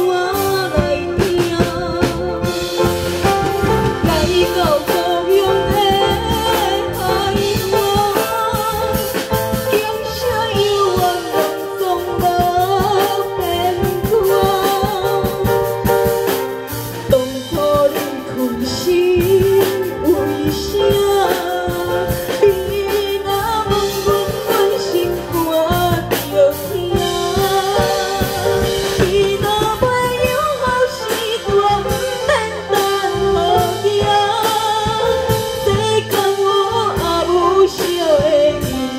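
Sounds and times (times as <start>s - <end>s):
backing music with drums: 0.0s - 38.9s
woman singing into a microphone: 0.0s - 38.9s.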